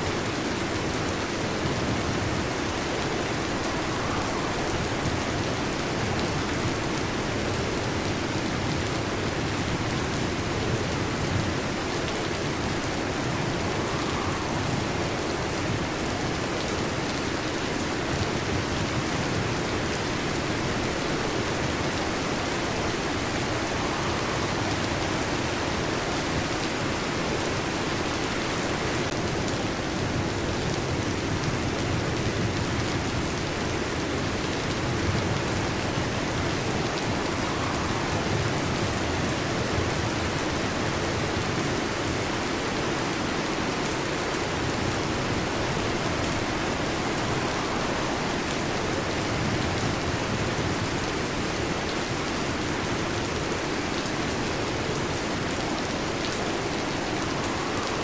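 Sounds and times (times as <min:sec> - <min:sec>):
heavy rain on a metal roof: 0:00.0 - 0:58.0.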